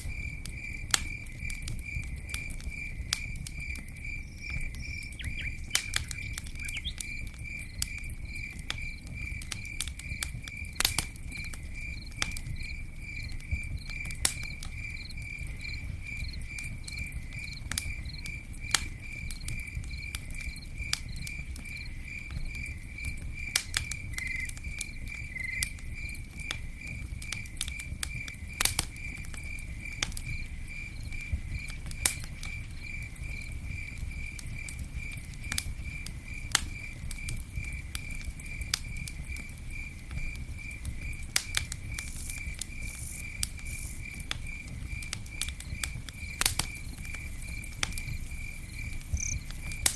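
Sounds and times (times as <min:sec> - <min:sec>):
campfire crackling and popping: 0:00.0 - 0:49.9
cricket chirping: 0:00.0 - 0:49.9.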